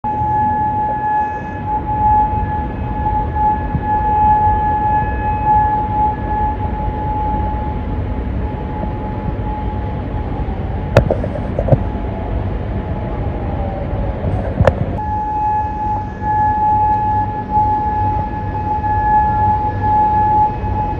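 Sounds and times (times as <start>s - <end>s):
air raid siren wailing: 0.0s - 20.9s
low rumble: 0.1s - 20.9s.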